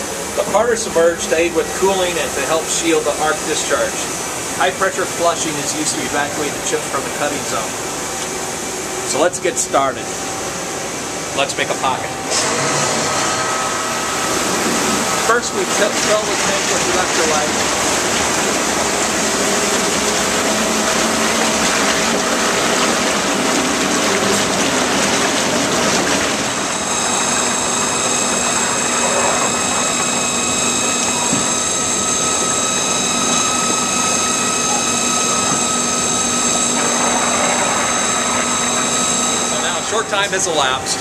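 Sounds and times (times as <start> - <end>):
liquid gushing into tank: 0.0 - 11.3, 12.5 - 40.8
churning water in tank: 0.0 - 41.0
machine pumps whining: 0.0 - 41.0.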